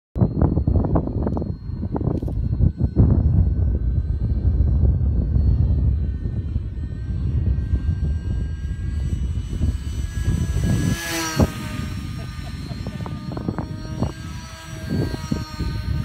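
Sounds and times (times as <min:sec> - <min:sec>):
model plane motor whining: 0:00.2 - 0:16.0
wind rumble on microphone: 0:00.2 - 0:16.0.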